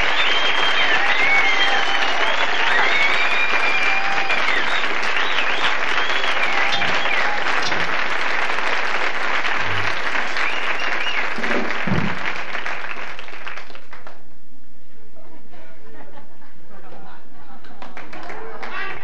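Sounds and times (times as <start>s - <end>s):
audience applauding and cheering: 0.0s - 14.3s, 17.8s - 19.0s.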